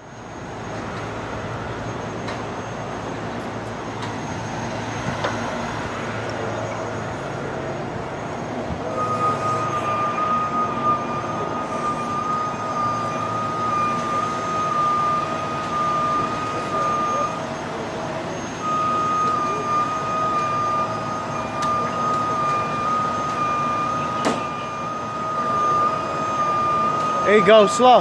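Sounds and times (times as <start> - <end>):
steady high-pitched tone: 0.0 - 28.0
tow truck machine noise: 0.0 - 28.0.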